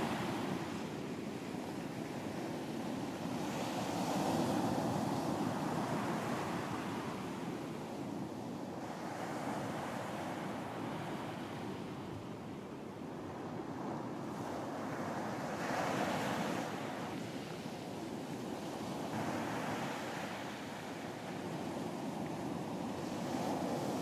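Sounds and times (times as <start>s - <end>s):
ocean surf washing on beach: 0.0s - 24.0s.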